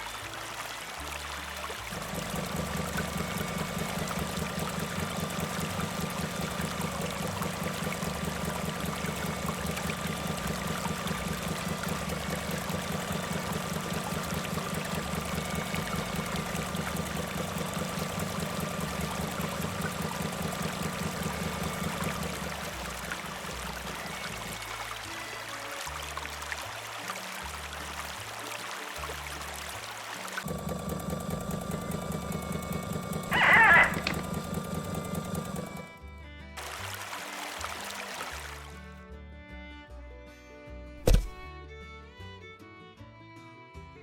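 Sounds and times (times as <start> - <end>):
small motor running: 0.0 - 38.7.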